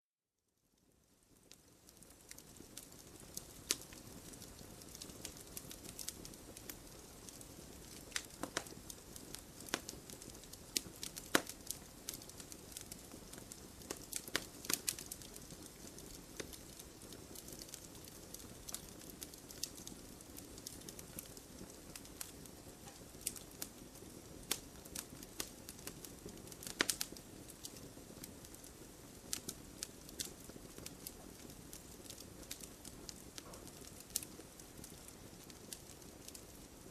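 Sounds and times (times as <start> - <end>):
campfire crackling: 0.8 - 36.9.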